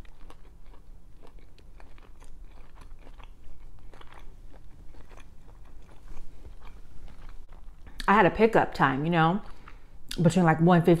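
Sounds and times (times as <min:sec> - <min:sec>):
chewing crunchy toasted sandwich: 0:00.0 - 0:08.1, 0:09.3 - 0:10.2.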